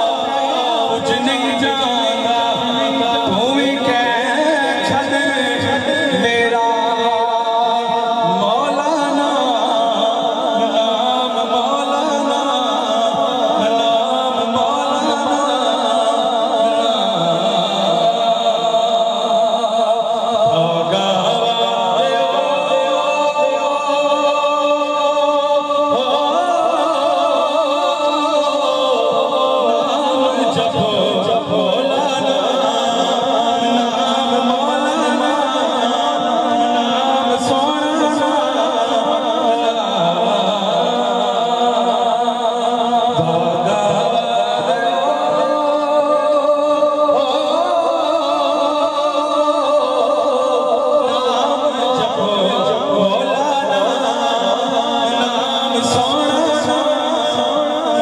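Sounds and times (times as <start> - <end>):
man singing through loudspeaker: 0.0 - 58.0.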